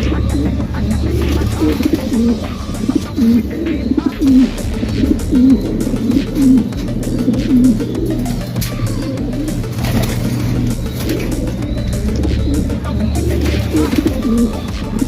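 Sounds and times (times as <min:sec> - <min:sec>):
pigeons cooing: 0:00.0 - 0:15.0
steady low hum: 0:00.0 - 0:15.0.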